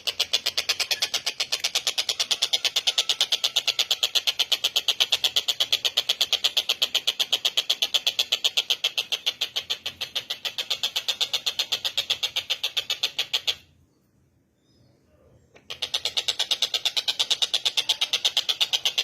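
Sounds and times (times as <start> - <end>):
bird chattering: 0.0 - 13.8, 14.6 - 19.0.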